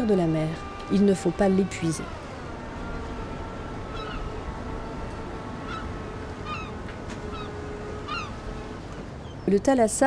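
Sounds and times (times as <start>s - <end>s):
seagulls calling: 0.0s - 9.6s.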